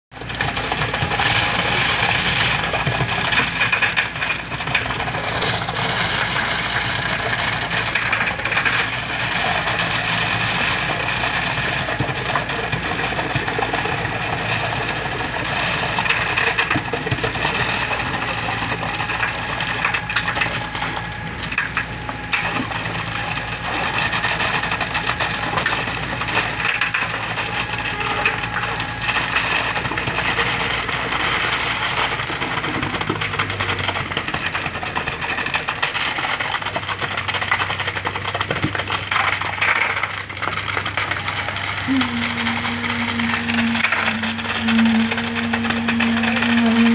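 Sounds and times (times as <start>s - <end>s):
slurry spattering over steel bars: 0.2s - 46.9s
wet concrete pouring: 0.2s - 46.9s.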